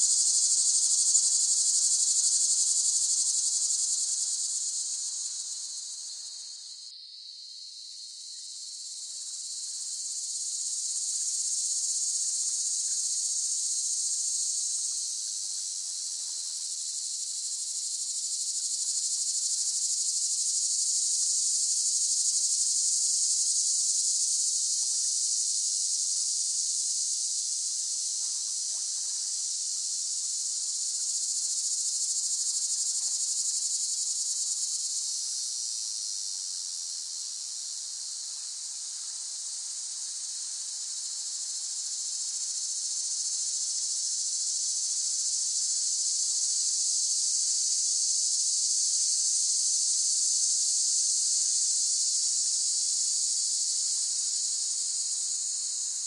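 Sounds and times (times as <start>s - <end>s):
cicadas singing: 0.0s - 27.3s, 28.0s - 56.0s.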